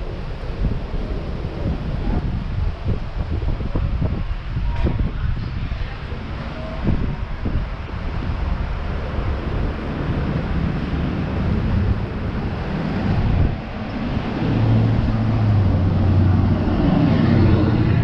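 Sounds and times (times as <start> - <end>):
street traffic: 0.0 - 18.0
vehicle engine humming nearby: 0.0 - 18.0.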